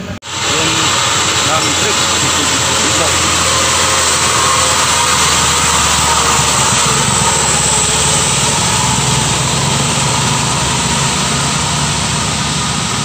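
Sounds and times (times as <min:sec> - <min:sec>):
motorcycle engines: 0:00.0 - 0:13.0
truck engine labouring: 0:00.0 - 0:13.0.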